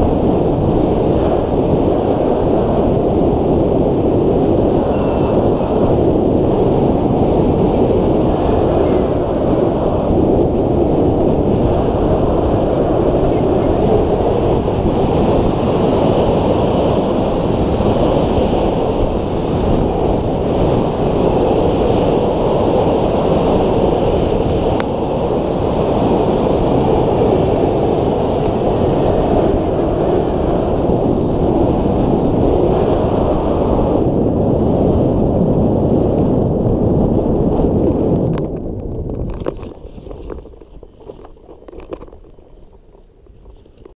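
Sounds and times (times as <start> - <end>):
rushing wind: 0.0 - 44.0.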